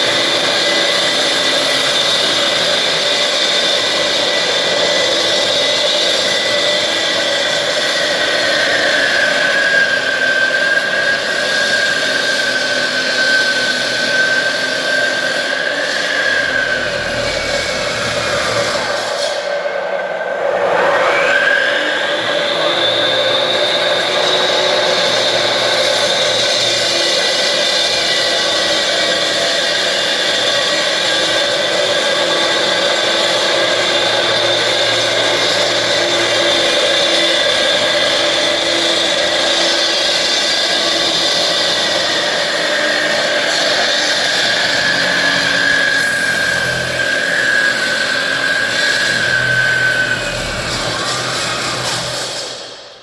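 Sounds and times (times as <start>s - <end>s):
electric saw cutting into wall: 0.0s - 53.0s.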